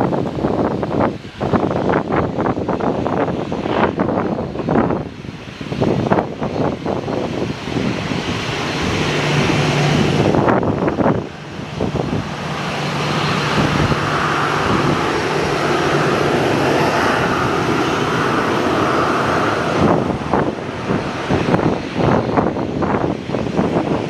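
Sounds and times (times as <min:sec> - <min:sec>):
aircraft engines passing: 0:00.0 - 0:24.0
wind buffeting microphone: 0:00.0 - 0:24.0.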